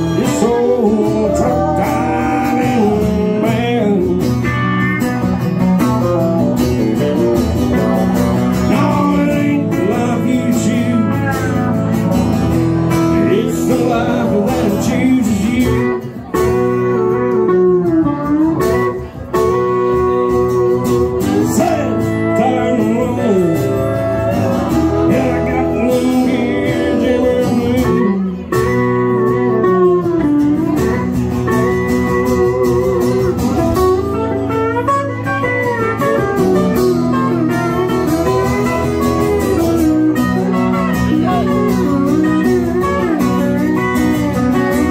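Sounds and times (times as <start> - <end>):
strummed acoustic guitar: 0.0 - 44.9.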